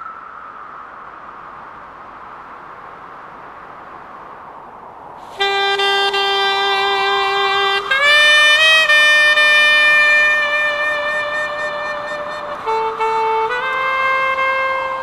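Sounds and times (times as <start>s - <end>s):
reedy wind instrument notes: 0.0s - 2.7s, 5.2s - 15.0s.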